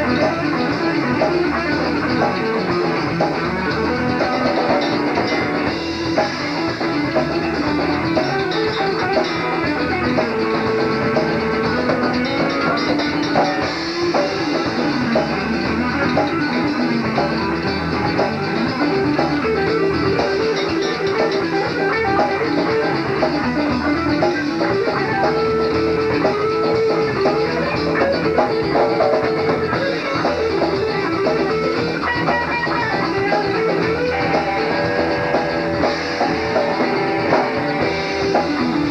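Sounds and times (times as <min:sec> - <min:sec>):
bass guitar: 0:00.0 - 0:38.9
drum kit: 0:00.0 - 0:38.9
electric guitars playing melody: 0:00.0 - 0:38.9.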